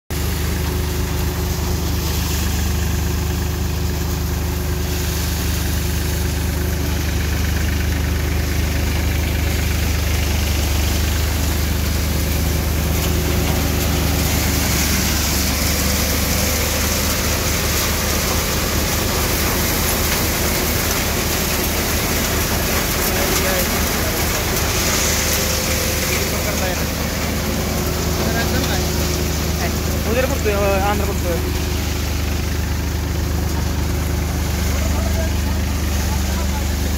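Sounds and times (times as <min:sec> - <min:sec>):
threshing machine humming: 0:00.1 - 0:36.9
rushing hiss: 0:00.2 - 0:36.9.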